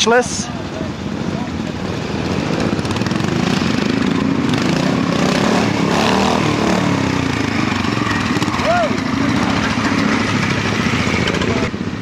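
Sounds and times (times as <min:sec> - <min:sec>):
motorcycle engine revving: 0:00.6 - 0:12.0.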